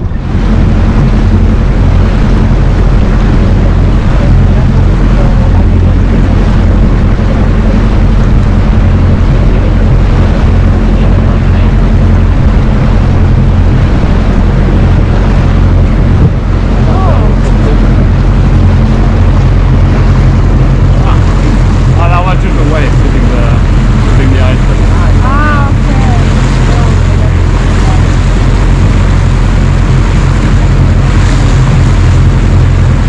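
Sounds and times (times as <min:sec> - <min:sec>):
outboard motor drone: 0:00.0 - 0:33.0
water rushing: 0:00.0 - 0:33.0
wind: 0:00.0 - 0:33.0.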